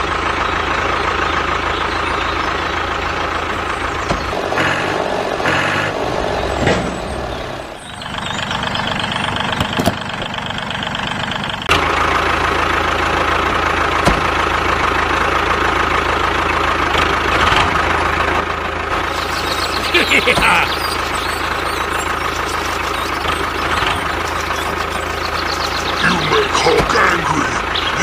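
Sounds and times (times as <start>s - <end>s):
tractor engine chugging: 0.0s - 28.0s.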